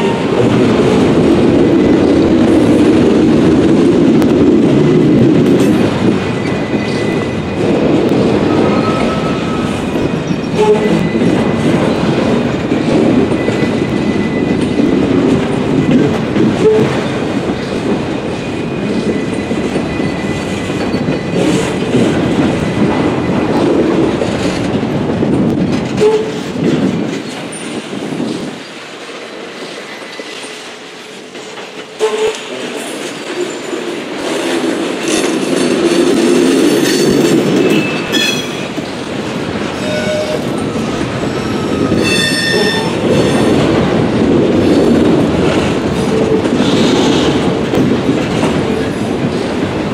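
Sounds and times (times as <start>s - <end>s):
train wheels clicking over rail joints: 0.0s - 49.9s.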